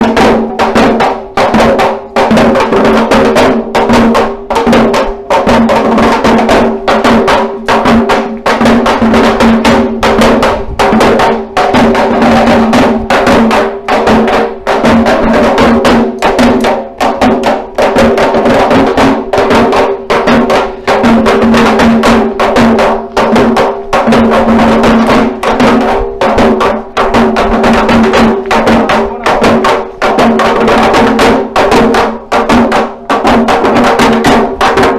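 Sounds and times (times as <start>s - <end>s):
frame drum beaten with sticks: 0.0s - 34.9s.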